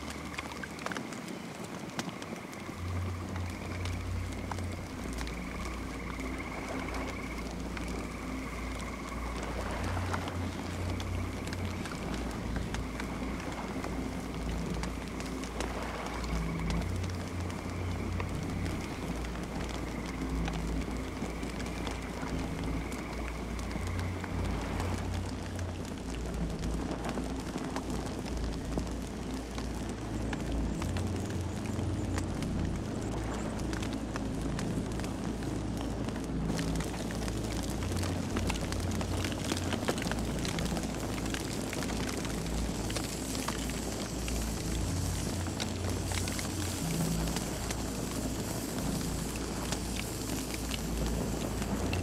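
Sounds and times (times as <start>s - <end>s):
campfire crackling and popping: 0.0s - 52.0s
low rumble of flames: 0.0s - 52.0s.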